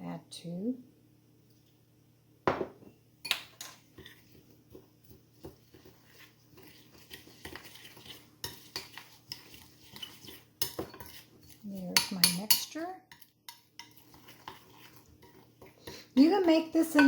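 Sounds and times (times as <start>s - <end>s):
spoon scraping a dish: 3.3s - 17.0s.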